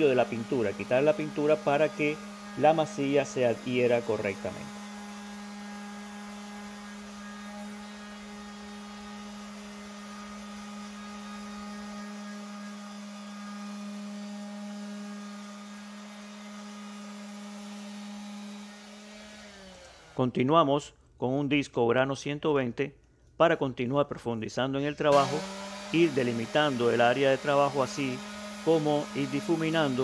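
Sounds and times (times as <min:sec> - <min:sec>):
orbital sander on metal panel: 0:00.0 - 0:20.2, 0:25.1 - 0:30.0.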